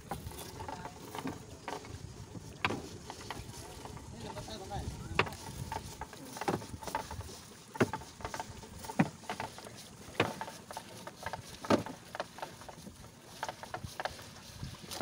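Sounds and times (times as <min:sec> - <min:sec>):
water splashing and dripping: 0:00.0 - 0:15.0
wet net slapping a boat hull: 0:00.0 - 0:15.0.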